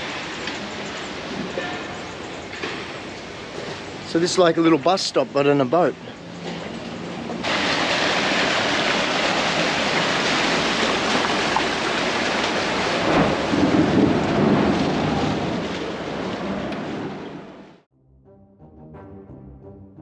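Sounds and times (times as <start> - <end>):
boat engine and water roar: 0.0 - 17.8.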